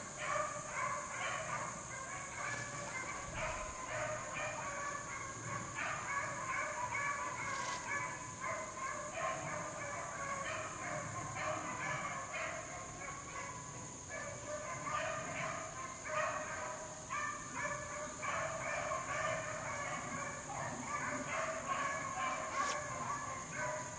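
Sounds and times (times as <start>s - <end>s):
pack of dogs baying: 0.0s - 23.9s.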